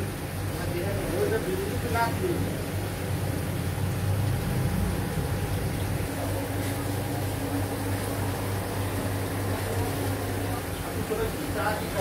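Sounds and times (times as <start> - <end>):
aquarium air pumps humming: 0.0 - 12.0
sponge filters bubbling: 0.0 - 12.0.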